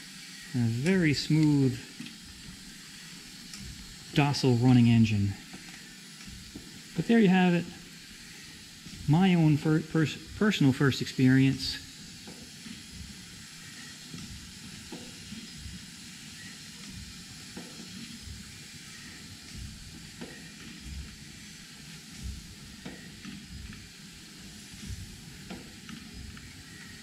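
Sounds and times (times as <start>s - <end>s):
steam engine low rumble: 0.0s - 27.0s
steam hissing: 0.0s - 27.0s.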